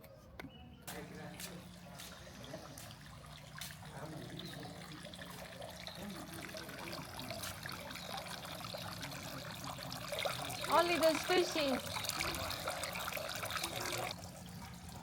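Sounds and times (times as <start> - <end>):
water trickling: 0.9 - 15.0.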